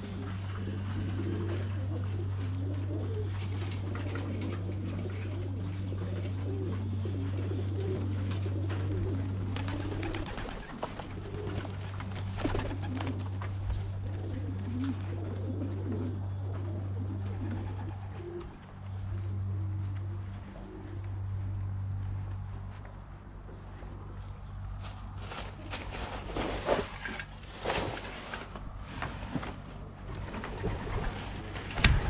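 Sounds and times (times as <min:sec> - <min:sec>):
pigeons cooing: 0:00.0 - 0:32.0
steady low hum: 0:00.0 - 0:32.0
wing flutters: 0:00.1 - 0:21.0, 0:24.8 - 0:32.0.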